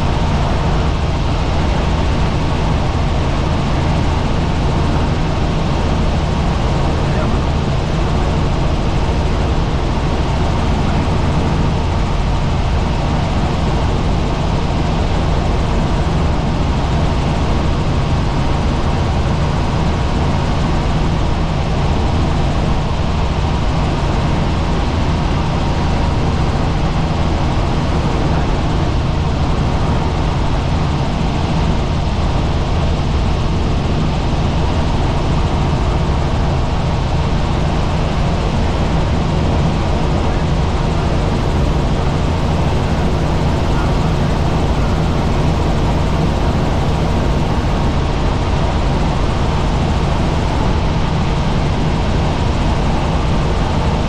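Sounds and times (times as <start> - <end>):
helicopter drone: 0.0 - 54.0.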